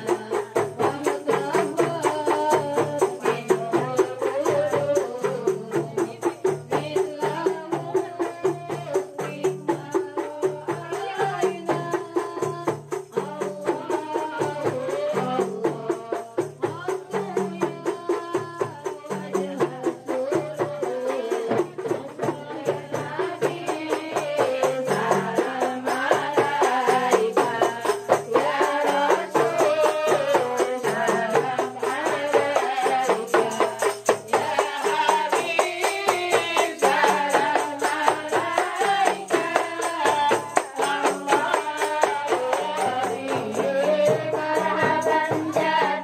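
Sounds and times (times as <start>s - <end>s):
frame drums: 0.0s - 46.0s
tambourine jingles: 0.0s - 46.0s
woman singing into microphone: 0.0s - 46.0s.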